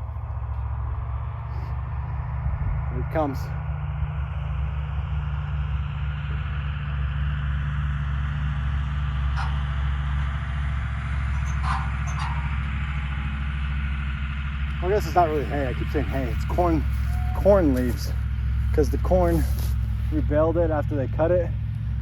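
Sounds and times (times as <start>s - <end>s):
farm vehicle engine running: 0.0s - 22.0s.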